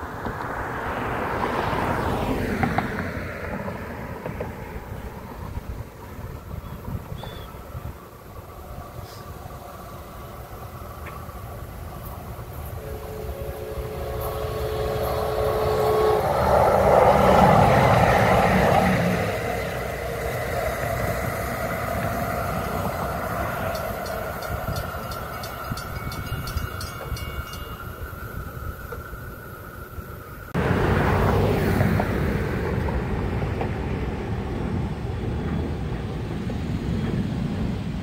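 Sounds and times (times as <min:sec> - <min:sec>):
electric train passing: 0:00.0 - 0:38.0.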